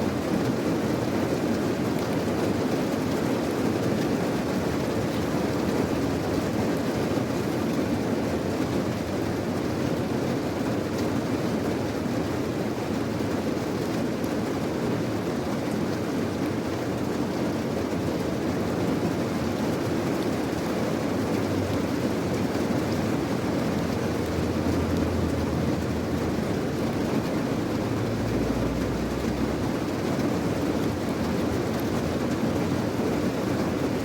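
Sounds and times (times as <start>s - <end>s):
steady rain rushing: 0.0s - 34.0s.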